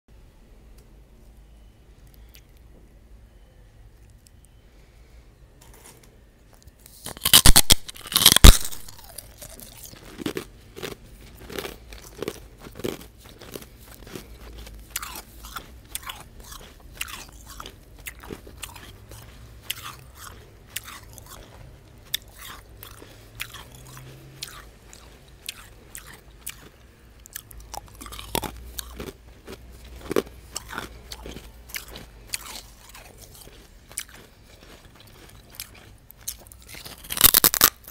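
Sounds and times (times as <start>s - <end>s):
person crunching ice: 6.9s - 37.9s.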